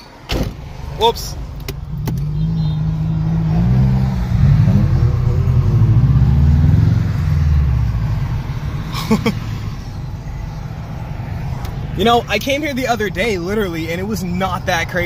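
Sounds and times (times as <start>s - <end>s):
car engine from inside cabin: 0.6s - 13.6s.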